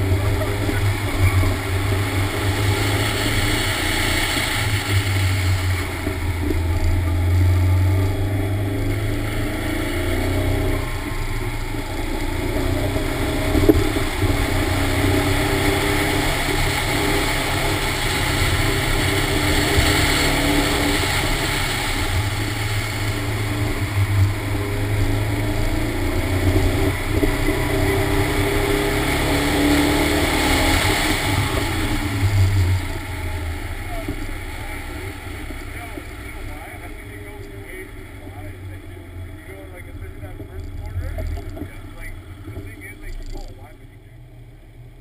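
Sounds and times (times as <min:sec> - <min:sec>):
car engine under hard driving: 0:00.0 - 0:45.0.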